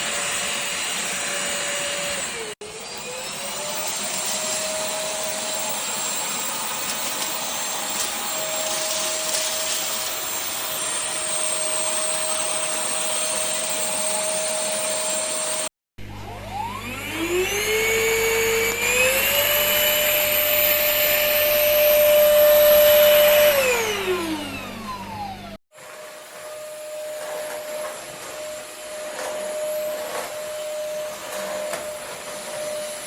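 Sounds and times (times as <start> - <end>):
stick vacuum motor whining: 0.1 - 15.7, 16.3 - 33.0.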